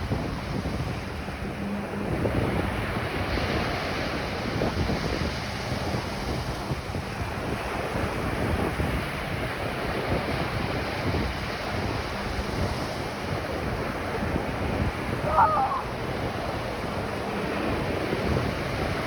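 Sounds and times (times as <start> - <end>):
ocean waves washing onto beach: 0.0 - 19.0
wind buffeting microphone: 0.0 - 19.0.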